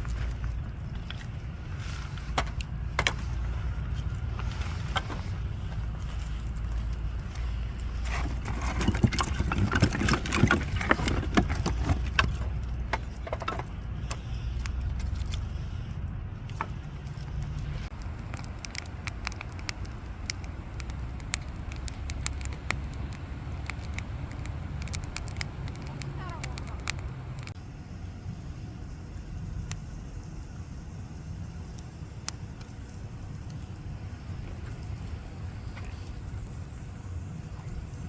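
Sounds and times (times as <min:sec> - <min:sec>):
steady low rumble: 0:00.0 - 0:38.0
wood fire crackling: 0:00.0 - 0:38.0.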